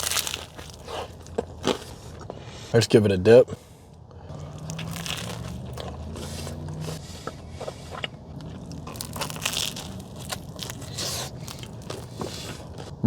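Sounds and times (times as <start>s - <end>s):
sandwich bread crunching: 0.0s - 2.3s, 4.3s - 13.0s.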